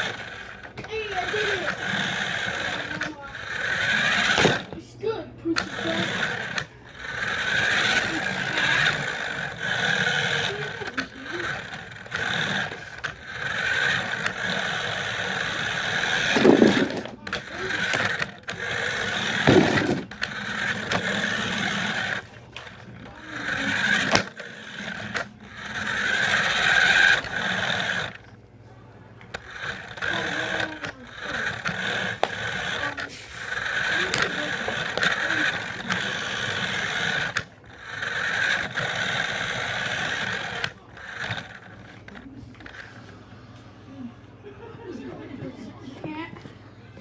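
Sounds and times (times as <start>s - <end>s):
remote-control car motor whining: 0.0s - 46.4s.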